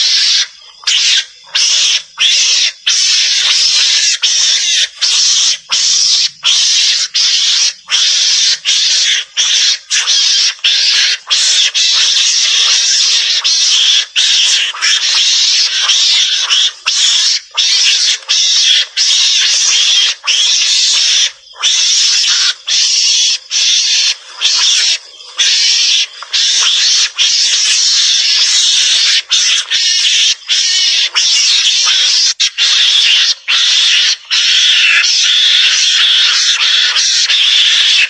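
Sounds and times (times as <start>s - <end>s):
mongoose hissy chatter calls: 0.0s - 38.0s.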